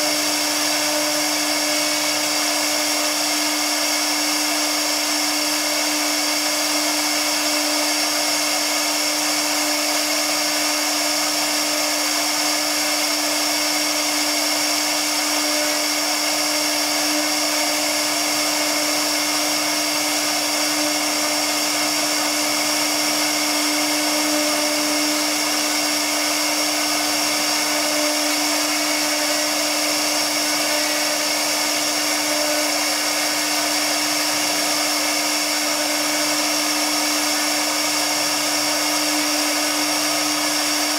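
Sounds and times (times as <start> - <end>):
router spindle whine: 0.0 - 40.9.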